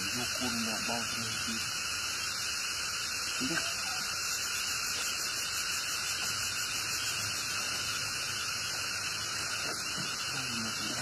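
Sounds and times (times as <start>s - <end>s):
steady static hiss: 0.0s - 11.0s.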